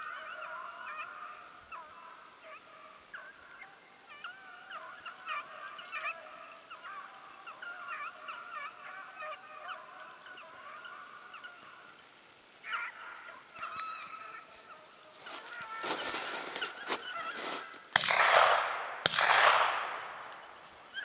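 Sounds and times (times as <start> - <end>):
hounds baying: 0.0 - 17.8.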